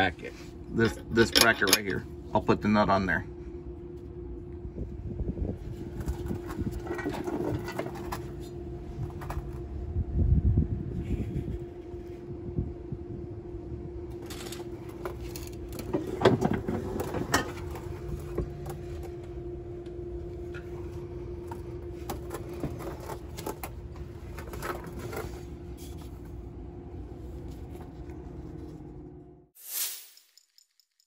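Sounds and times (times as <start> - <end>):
mechanical hum with rumble: 0.0 - 29.6.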